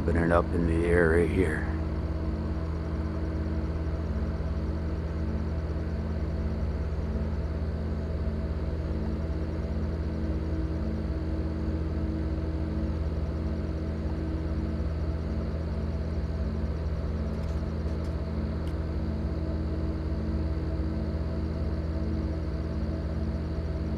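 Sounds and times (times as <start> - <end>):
low throbbing industrial drone: 0.0 - 23.9.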